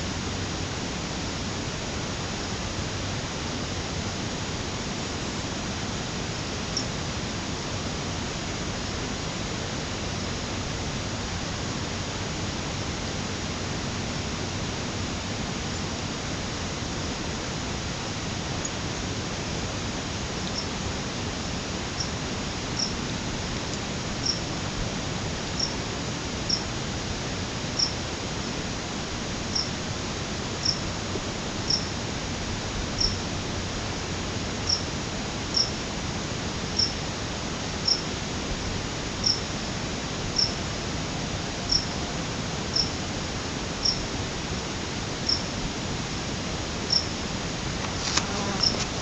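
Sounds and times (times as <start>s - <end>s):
steady hiss: 0.0s - 49.0s.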